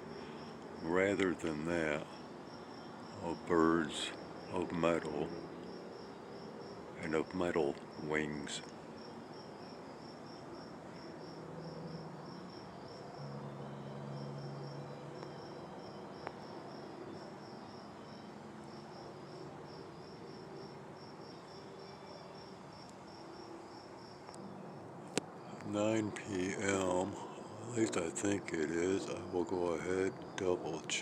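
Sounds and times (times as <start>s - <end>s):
crickets chirping: 0.0s - 31.0s
faint low hum: 0.0s - 31.0s.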